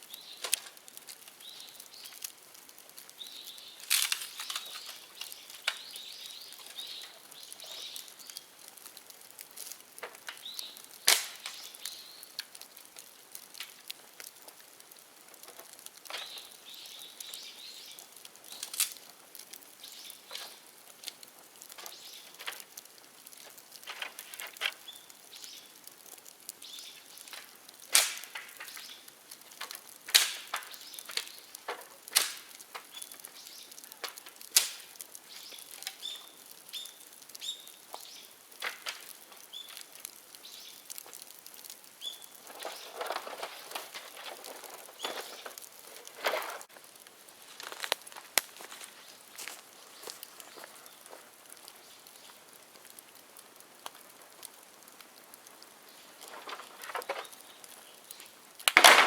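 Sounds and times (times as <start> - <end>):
bamboo bonfire crackling: 0.0 - 59.0.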